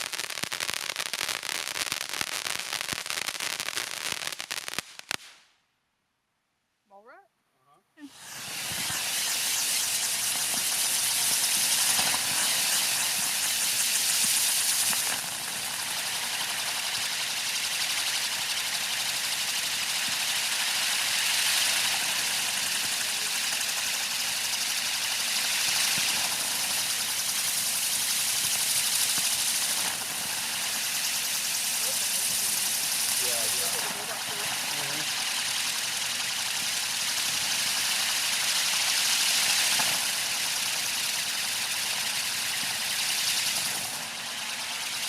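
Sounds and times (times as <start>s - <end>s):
firework fountain hissing: 0.0s - 5.6s, 8.0s - 45.0s.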